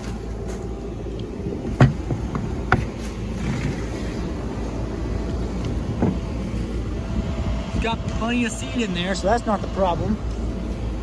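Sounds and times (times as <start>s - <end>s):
tractor humming: 0.0s - 11.0s.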